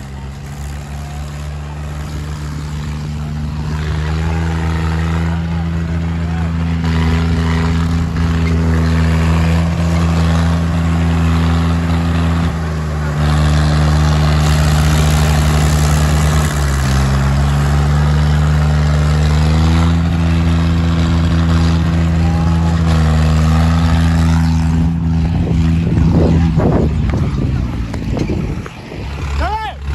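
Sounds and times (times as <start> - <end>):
diesel tractor engines: 0.0 - 29.9.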